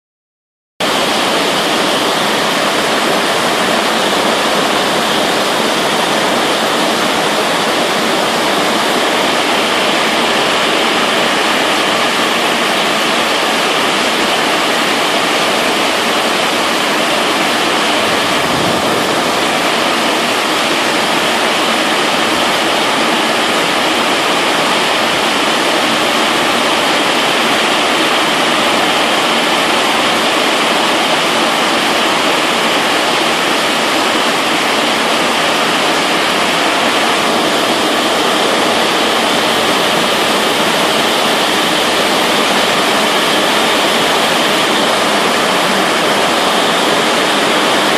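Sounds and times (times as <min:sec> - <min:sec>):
heavy rain pouring: 0:00.8 - 0:47.9.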